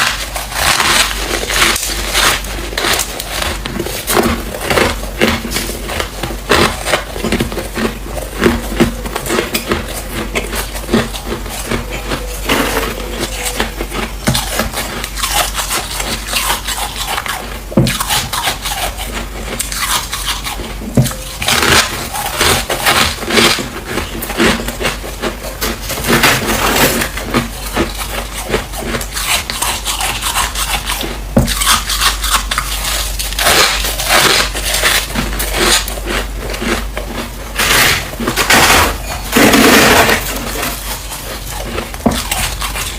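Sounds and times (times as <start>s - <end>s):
frost being scraped and crunched: 0.0s - 42.9s.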